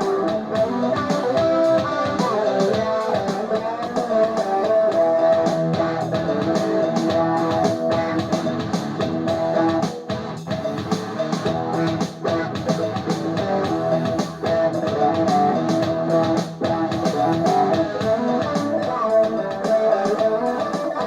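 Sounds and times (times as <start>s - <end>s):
guitar playing: 0.0s - 21.0s
steady drum beat: 0.0s - 21.0s.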